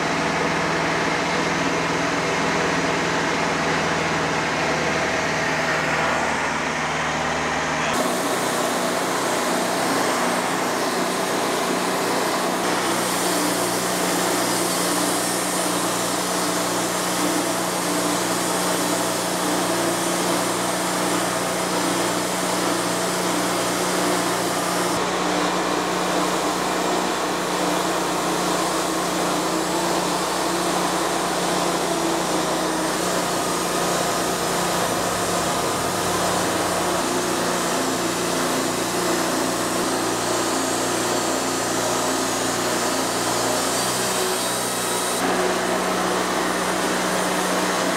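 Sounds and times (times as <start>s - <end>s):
bandsaw mill sawing log: 0.0s - 47.9s.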